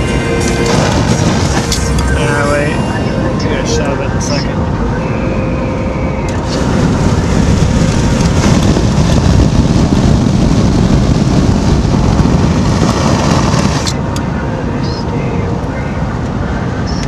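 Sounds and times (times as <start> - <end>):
tyre and road noise: 0.0 - 17.0
wind rushing through car window: 0.0 - 17.0.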